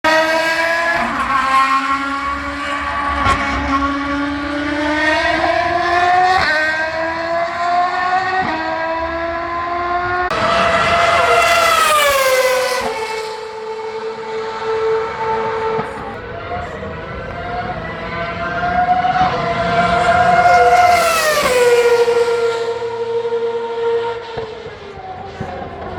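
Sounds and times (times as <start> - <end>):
racing car engine accelerating: 0.1 - 25.9.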